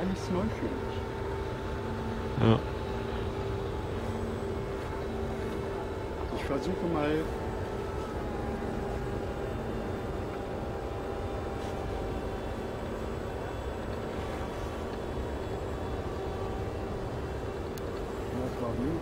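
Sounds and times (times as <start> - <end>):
model plane motor drone: 0.0 - 19.0.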